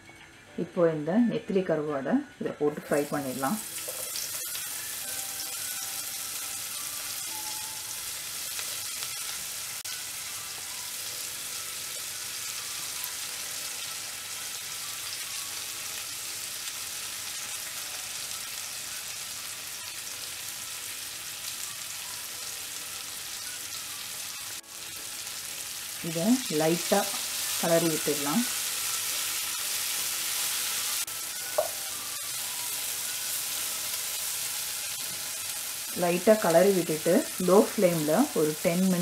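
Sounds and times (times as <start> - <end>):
fish sizzling in hot oil: 3.0 - 39.0.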